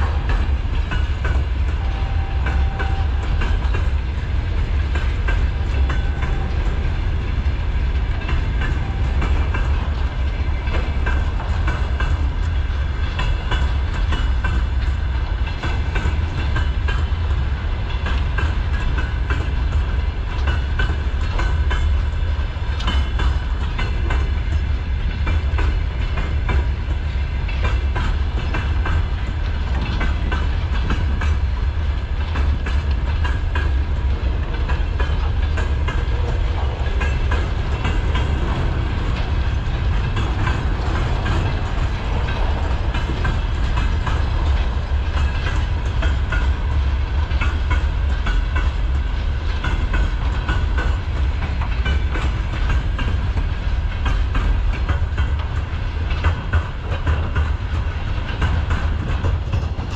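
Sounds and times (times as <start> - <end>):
freight train rumbling past: 0.0 - 59.9
wheels clacking over rail joints: 0.0 - 59.9.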